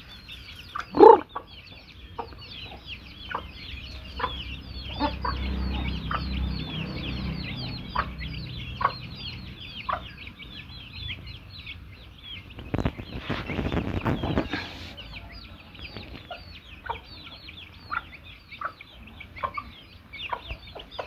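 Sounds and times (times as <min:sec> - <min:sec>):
baby chicks peeping: 0:00.0 - 0:21.0
adult chicken clucking: 0:00.1 - 0:21.0.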